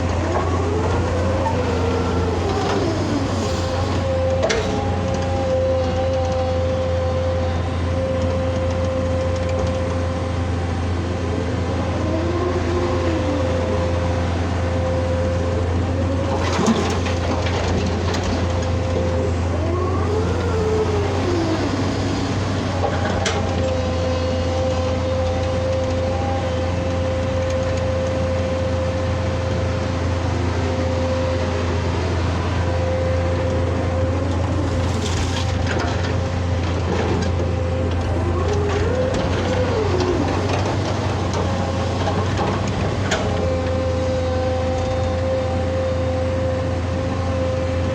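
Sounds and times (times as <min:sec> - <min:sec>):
excavator engine running: 0:00.0 - 0:47.9.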